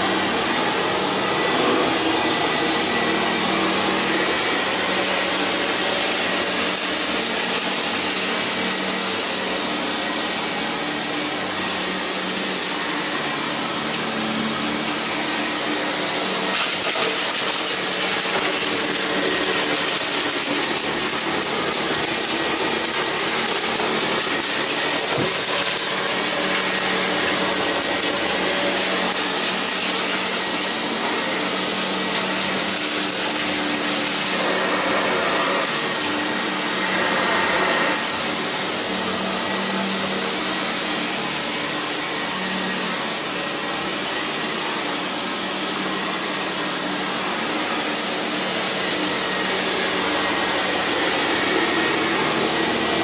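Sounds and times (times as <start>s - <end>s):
vacuum cleaners running: 0.0s - 53.0s.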